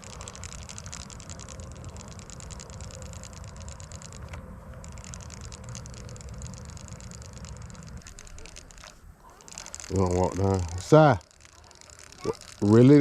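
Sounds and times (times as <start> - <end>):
fast high ticking: 0.0 - 13.0.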